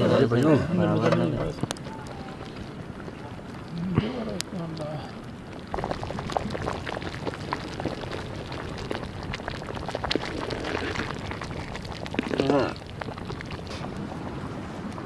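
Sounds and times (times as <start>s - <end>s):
pot of rice boiling: 0.0s - 15.0s
wood fire crackling: 0.0s - 15.0s.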